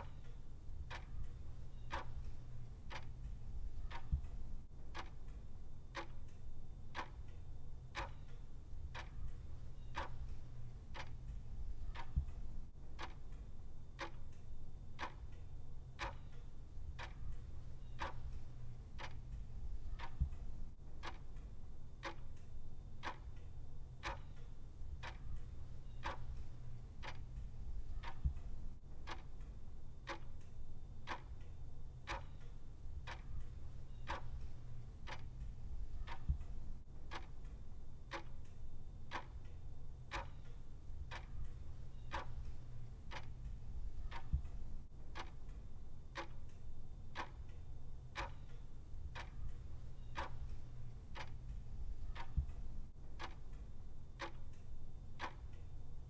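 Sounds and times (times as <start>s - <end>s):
clock ticking: 0.0s - 56.0s
low steady hum: 0.0s - 56.0s.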